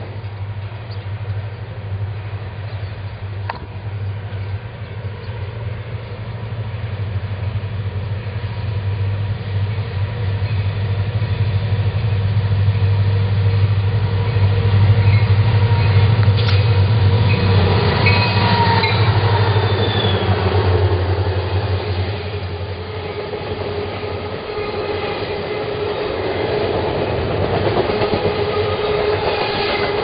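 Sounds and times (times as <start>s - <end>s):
locomotive diesel engines rumbling: 0.0s - 30.0s.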